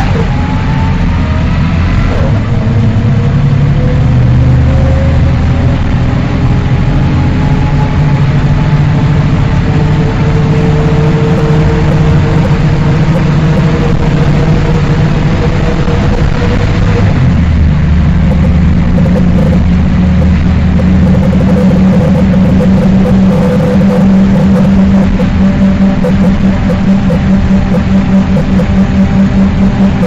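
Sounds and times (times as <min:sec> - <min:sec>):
bus engine rumble: 0:00.0 - 0:30.0
transmission whine: 0:00.0 - 0:30.0.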